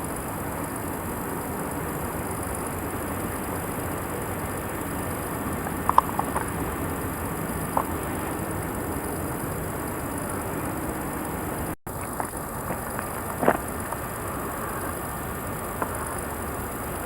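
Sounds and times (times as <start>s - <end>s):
steady rumbling noise: 0.0s - 17.0s.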